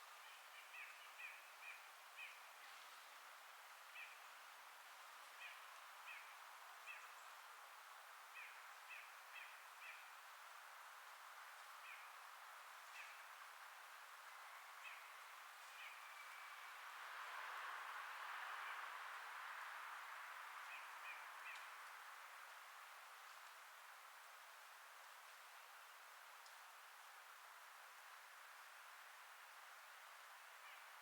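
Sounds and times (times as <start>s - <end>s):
wind through leaves: 0.0s - 31.0s.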